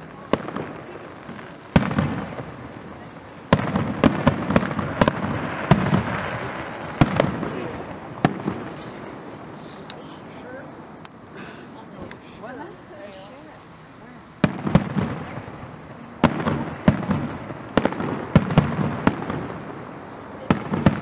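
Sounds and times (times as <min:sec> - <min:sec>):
fireworks bursting with bangs: 0:00.0 - 0:13.7, 0:14.3 - 0:21.0.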